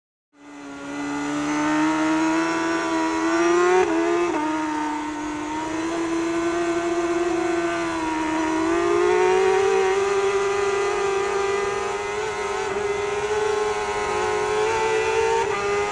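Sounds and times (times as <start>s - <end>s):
motorcycle engine at high revs: 0.4s - 15.9s.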